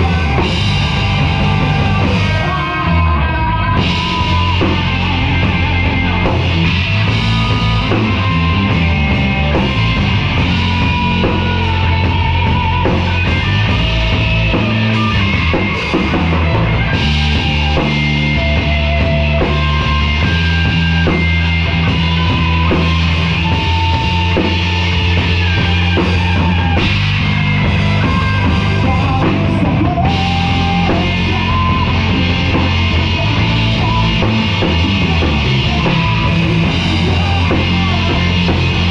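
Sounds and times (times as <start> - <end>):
bass guitar: 0.0 - 38.9
distorted guitars: 0.0 - 38.9
drum kit: 0.0 - 38.9
sustained lead guitar: 0.0 - 38.9.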